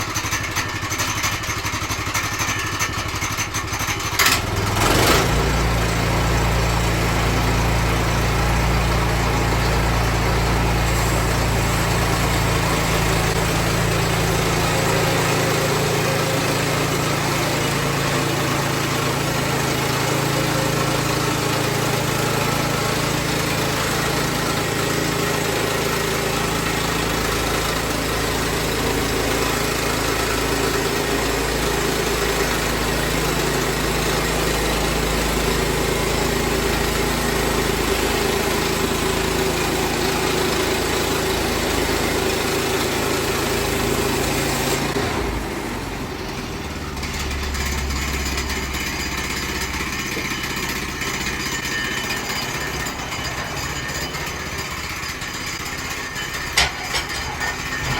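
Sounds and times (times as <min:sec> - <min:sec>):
sawmill engine running: 0:00.0 - 0:57.9.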